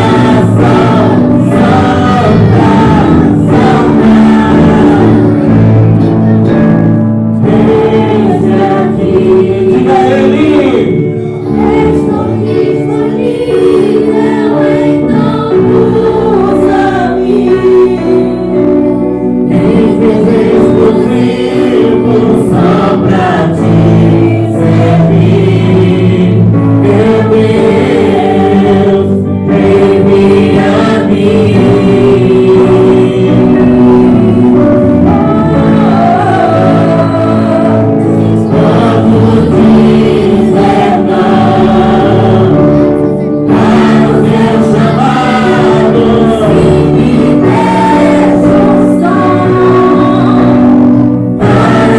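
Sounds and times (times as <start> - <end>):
choir singing worship song: 0.0 - 51.9
instrumental accompaniment: 0.0 - 51.9.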